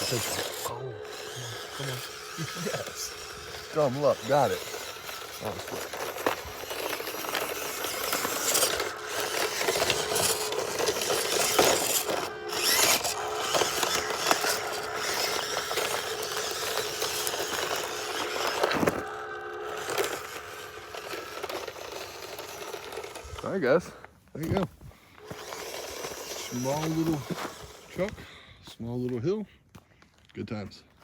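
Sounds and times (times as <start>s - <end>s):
tyres crunching over rock: 0.0s - 28.2s
small electric motor whining: 0.0s - 28.3s.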